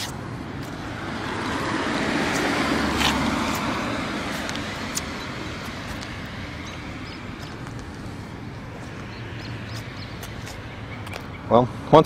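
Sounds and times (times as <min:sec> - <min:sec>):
vehicle passing on street: 0:00.0 - 0:12.0.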